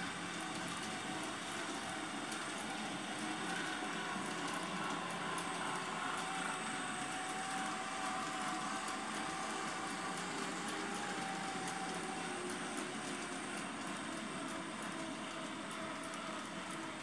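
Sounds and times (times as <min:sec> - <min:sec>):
model train motor whine: 0:00.0 - 0:17.0
wheels rolling on track: 0:00.0 - 0:17.0.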